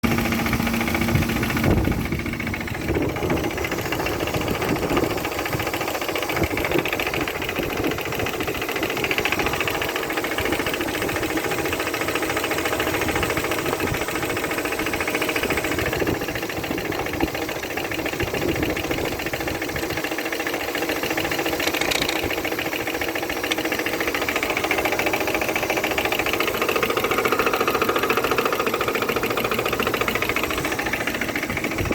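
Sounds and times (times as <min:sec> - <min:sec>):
car engine running: 0:00.0 - 0:31.9
rapid knocking inside engine: 0:00.0 - 0:31.9.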